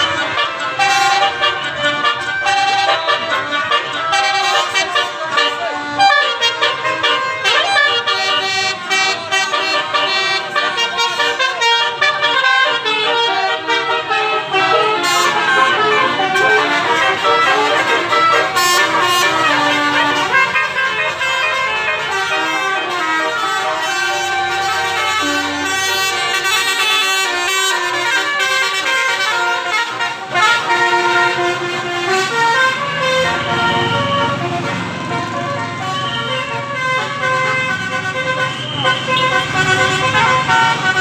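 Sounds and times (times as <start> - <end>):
multi-tone musical vehicle horns: 0.0 - 41.0.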